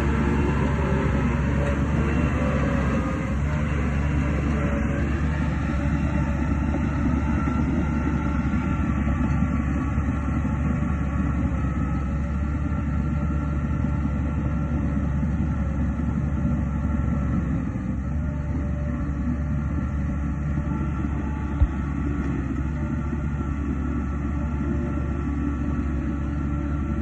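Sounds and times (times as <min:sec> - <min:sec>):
diesel machinery engine rumble: 0:00.0 - 0:27.0.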